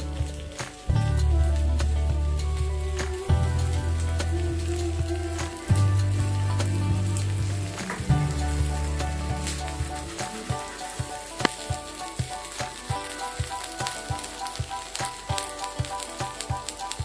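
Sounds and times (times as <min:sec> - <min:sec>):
background music with beat: 0:00.0 - 0:17.0
pancake sizzling in frying pan: 0:00.0 - 0:17.0.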